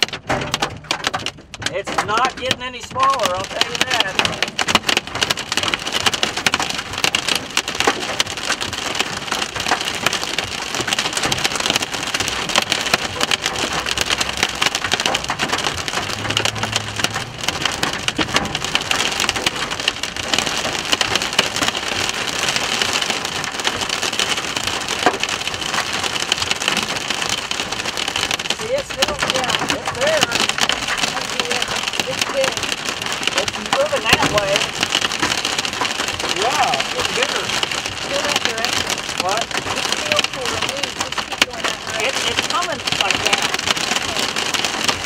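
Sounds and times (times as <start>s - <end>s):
heavy rain on car roof: 0.0s - 45.0s.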